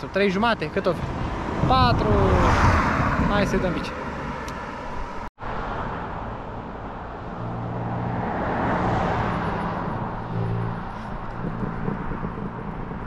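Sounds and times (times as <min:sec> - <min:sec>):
vehicle passing by: 0:00.8 - 0:13.0.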